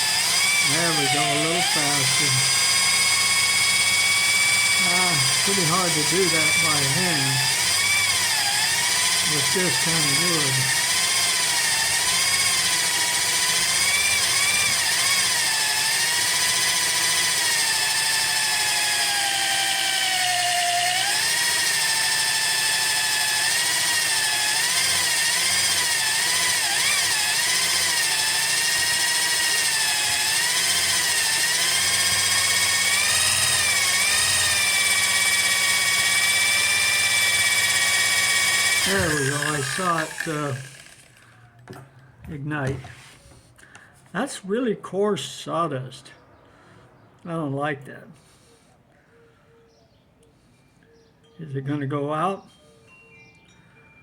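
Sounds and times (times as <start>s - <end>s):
electric drill whining: 0.0s - 43.9s.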